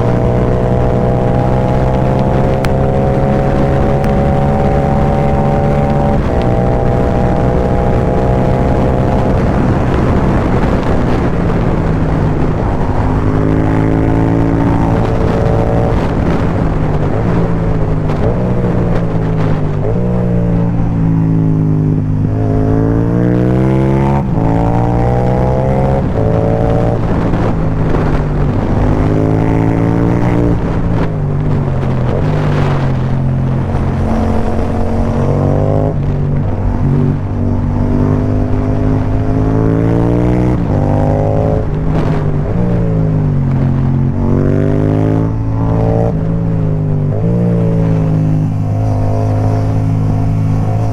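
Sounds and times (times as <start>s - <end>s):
motorcycle engine accelerating hard: 0.0s - 50.9s.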